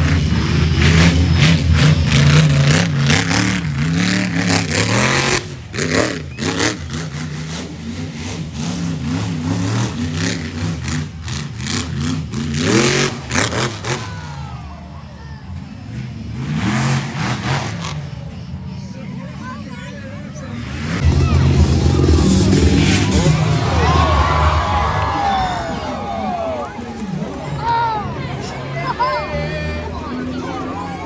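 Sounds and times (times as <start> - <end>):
vehicle engine revving: 0.0 - 14.9, 15.6 - 31.0.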